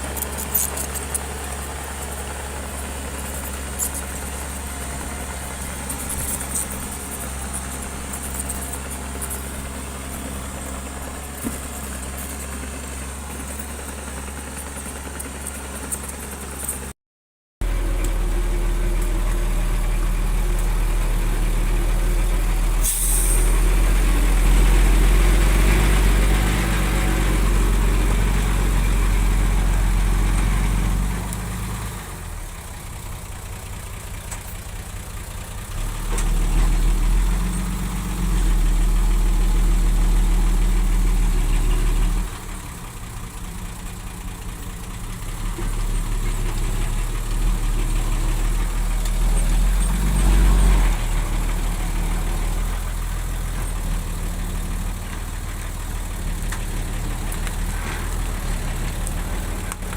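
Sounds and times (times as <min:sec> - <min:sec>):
bulldozer diesel engine running: 0:00.0 - 0:16.9, 0:17.6 - 0:59.9.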